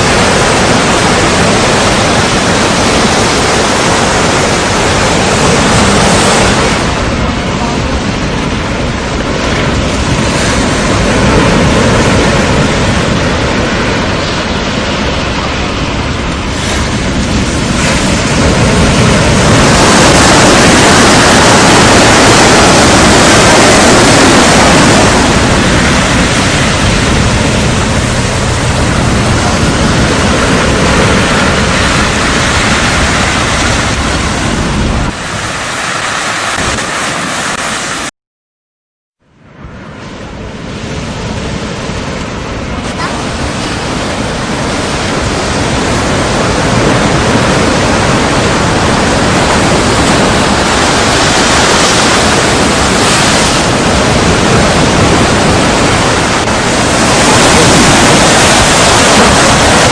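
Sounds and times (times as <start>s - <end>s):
wind buffeting microphone: 0.0s - 37.5s, 39.4s - 59.9s
surf breaking on a beach: 0.0s - 38.1s, 39.3s - 59.9s.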